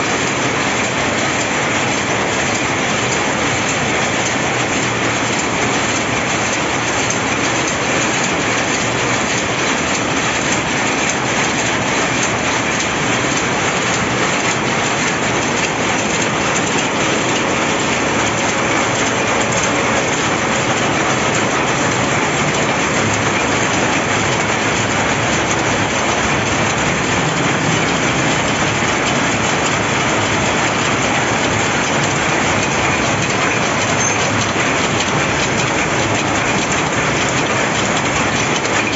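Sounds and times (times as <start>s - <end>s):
power looms clattering: 0.0s - 38.9s.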